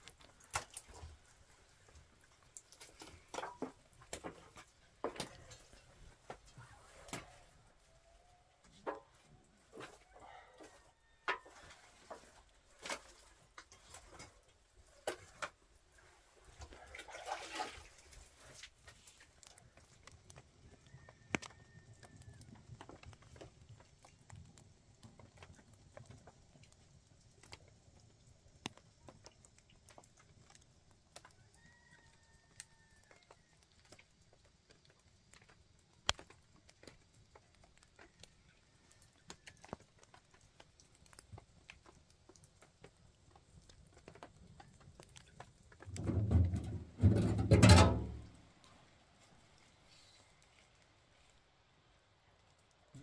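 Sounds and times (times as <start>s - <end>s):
rain drips: 0.0s - 53.0s.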